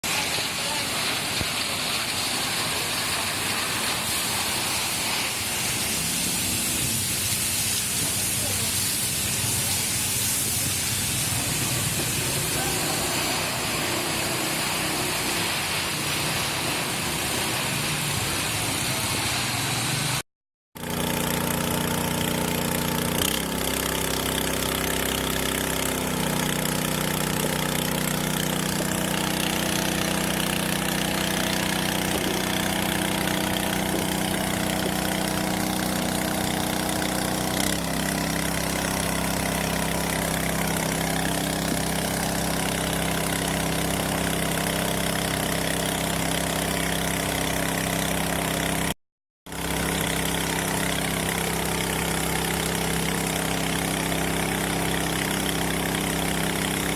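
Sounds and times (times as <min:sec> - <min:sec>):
water pump engine running: 0:00.0 - 0:20.2, 0:20.8 - 0:56.9
water spraying hiss: 0:00.0 - 0:20.2, 0:20.9 - 0:48.8, 0:49.5 - 0:56.9.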